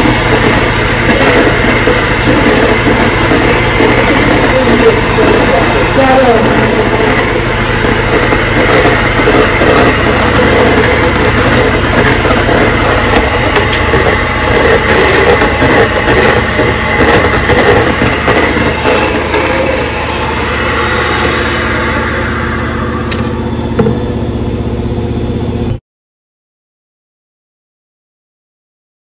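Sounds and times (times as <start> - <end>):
electric hand mixer whisking: 0.0 - 25.4.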